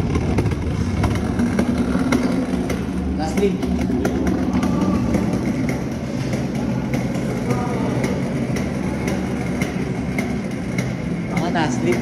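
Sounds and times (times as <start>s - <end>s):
cart wheels rumbling on hard floor: 0.0s - 12.0s.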